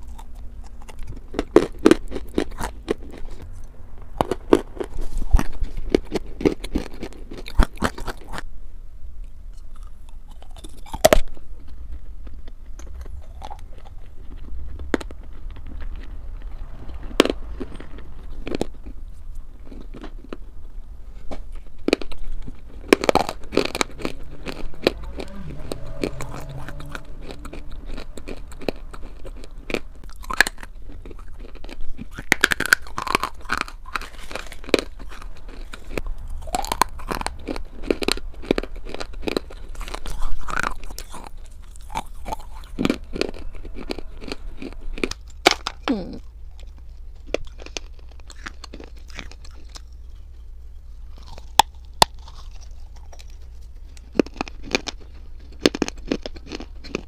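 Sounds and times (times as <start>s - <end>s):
dry clay crunching being chewed: 0.0s - 8.5s, 9.2s - 57.0s.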